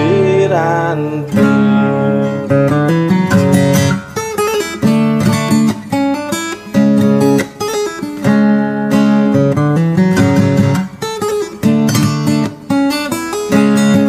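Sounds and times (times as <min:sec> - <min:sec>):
fingerstyle acoustic guitar: 0:00.0 - 0:14.0.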